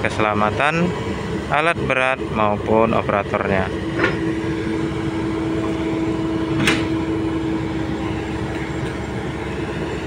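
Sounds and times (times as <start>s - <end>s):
excavator diesel engine whining: 0.0s - 10.0s.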